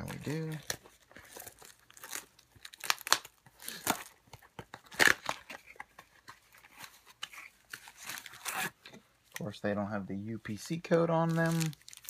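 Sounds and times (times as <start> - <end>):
plastic wrap crinkling and tearing: 0.0 - 9.5, 10.9 - 12.0.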